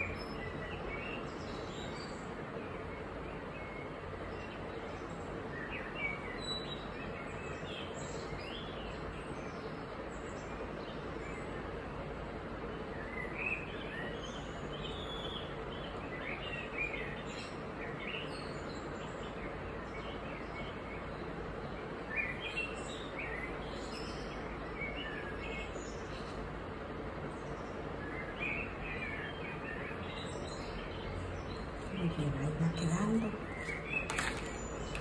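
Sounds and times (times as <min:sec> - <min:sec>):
faint hum: 0:00.0 - 0:35.0
small birds chirping: 0:00.0 - 0:35.0.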